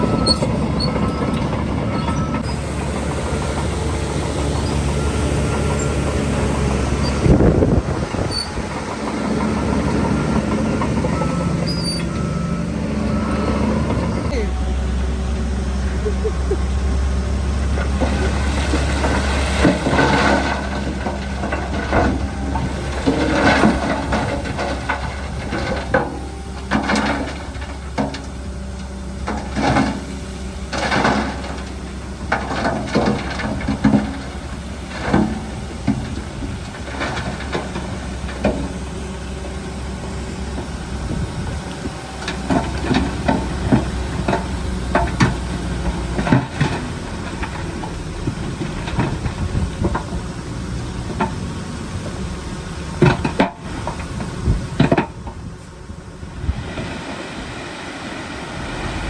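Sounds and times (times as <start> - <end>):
stone and dirt scraping and clattering: 0.0 - 12.3, 17.6 - 52.1, 52.9 - 55.4
heavy diesel machinery running: 0.0 - 59.0.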